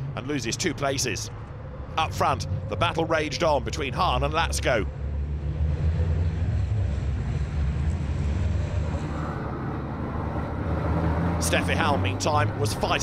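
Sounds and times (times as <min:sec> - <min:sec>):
truck diesel engines rumbling: 0:00.0 - 0:13.0.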